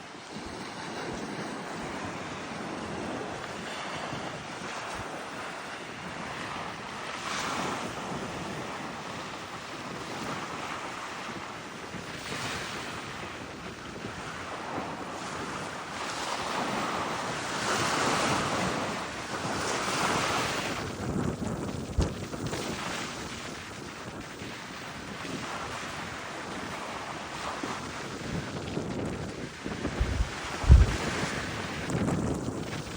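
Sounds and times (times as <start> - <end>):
small waves breaking on shore: 0.0 - 32.9
wind on microphone: 0.0 - 32.9.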